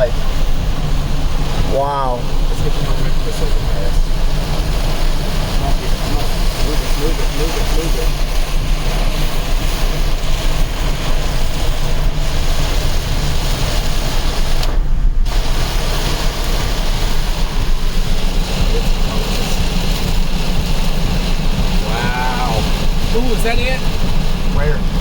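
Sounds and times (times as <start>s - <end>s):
car road noise: 0.0s - 25.0s
storm wind rushing: 0.0s - 25.0s.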